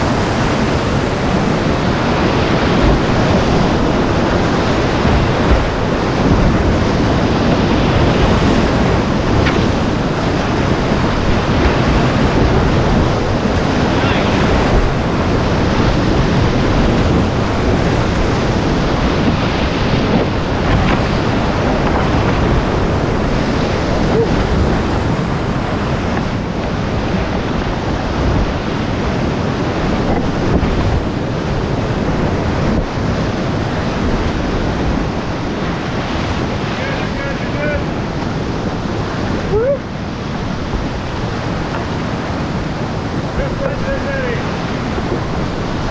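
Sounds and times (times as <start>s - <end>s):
water splashing over a kayak: 0.0s - 45.9s
whitewater rapids rushing: 0.0s - 45.9s.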